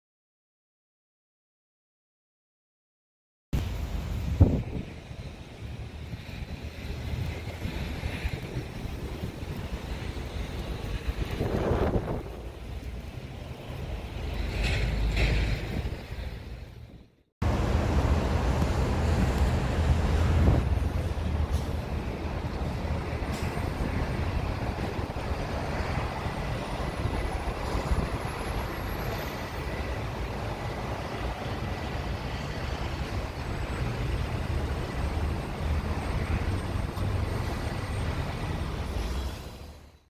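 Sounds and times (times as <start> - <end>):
high turbine whine: 3.6 - 40.0
jet rumble and hiss: 3.6 - 40.0.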